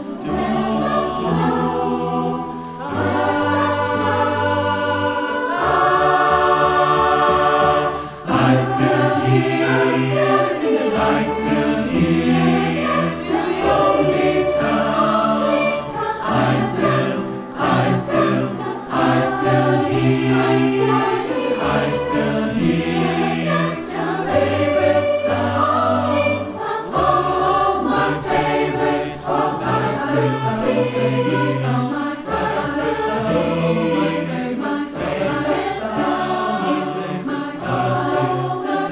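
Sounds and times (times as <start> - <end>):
mixed choir singing: 0.0 - 38.9
piano accompaniment: 0.0 - 38.9.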